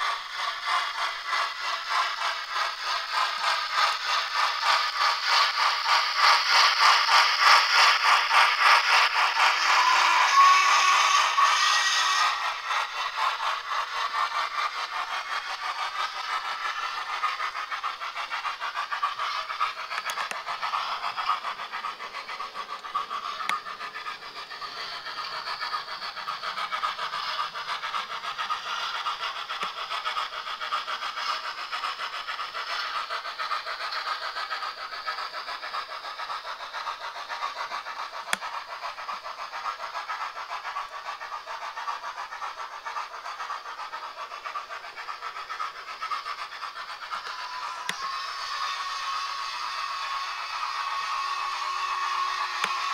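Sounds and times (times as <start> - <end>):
steam engine chuffing from small speaker: 0.0 - 52.9.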